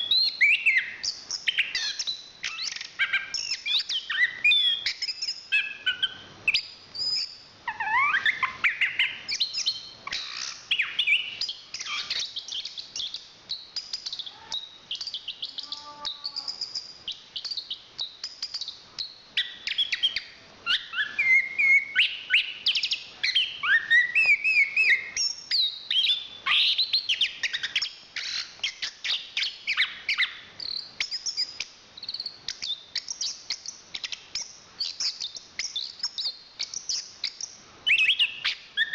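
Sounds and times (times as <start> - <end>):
thrush singing whistled song: 0.0 - 38.9.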